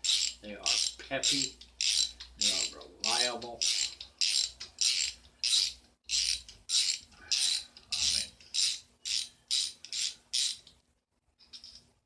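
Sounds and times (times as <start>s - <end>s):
ratchet wrench clicking: 0.0s - 10.7s.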